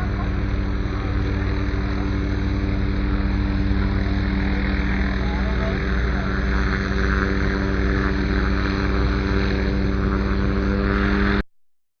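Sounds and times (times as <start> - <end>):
helicopter rotor beat: 0.0 - 11.4
helicopter turbine whine: 0.0 - 11.4.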